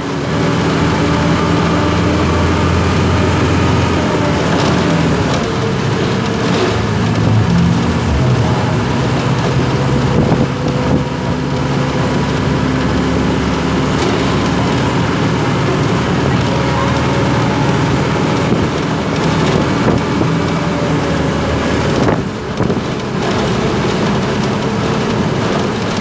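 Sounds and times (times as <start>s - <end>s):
bus engine drone: 0.0s - 26.0s
tyre and road noise: 0.0s - 26.0s.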